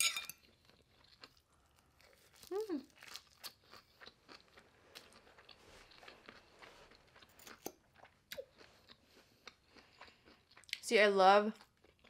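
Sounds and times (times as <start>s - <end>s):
chewing and crunching vegetables: 0.4s - 12.0s.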